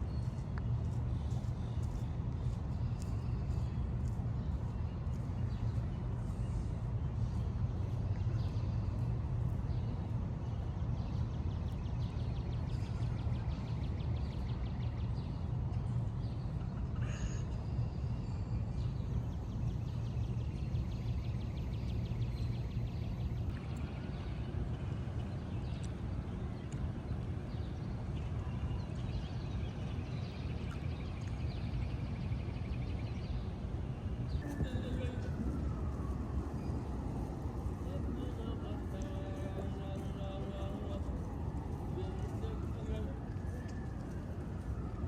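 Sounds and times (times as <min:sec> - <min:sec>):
low rumble of traffic: 0:00.0 - 0:45.0.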